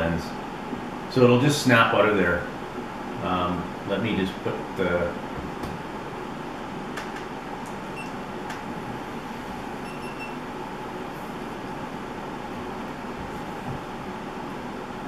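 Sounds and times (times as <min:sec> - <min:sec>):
fan or air conditioning noise: 0:00.0 - 0:15.0.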